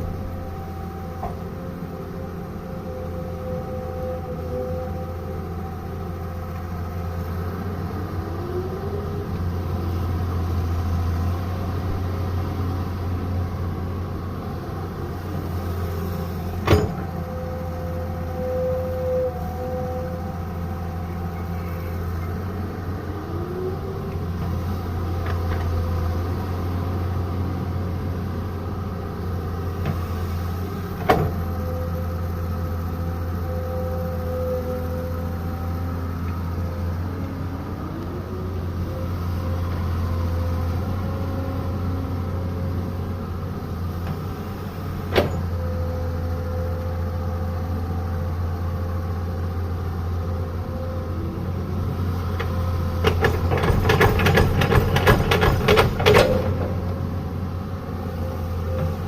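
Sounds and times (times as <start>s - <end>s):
excavator diesel engine running: 0.0s - 59.0s
hydraulic whine: 0.0s - 59.0s.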